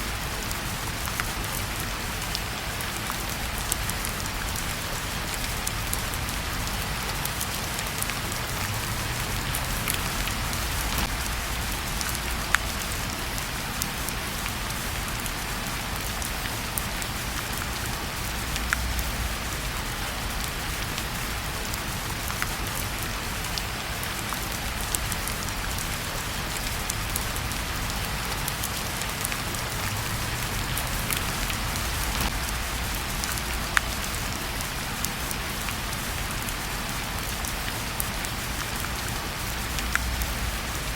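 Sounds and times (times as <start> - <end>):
steady rain falling: 0.0 - 40.9
wood fire crackling: 0.4 - 22.9, 24.3 - 38.8.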